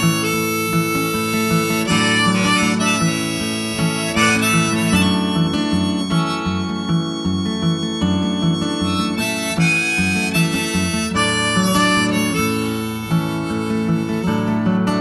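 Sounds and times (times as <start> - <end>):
harmonica melody: 0.0 - 15.0
strummed acoustic guitar: 0.0 - 15.0.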